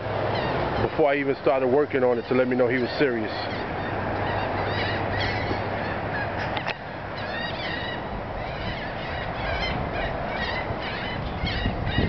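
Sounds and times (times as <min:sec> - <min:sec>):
birds calling: 0:00.0 - 0:12.0
steady background noise: 0:00.0 - 0:12.0.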